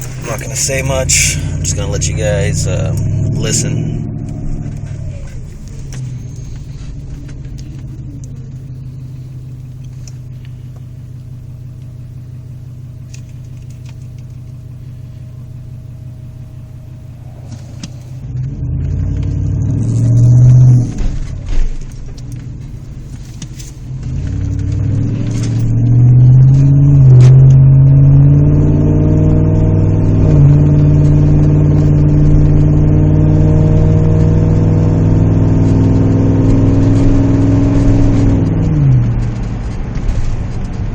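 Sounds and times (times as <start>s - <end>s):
car engine droning while driving: 0.0s - 40.9s.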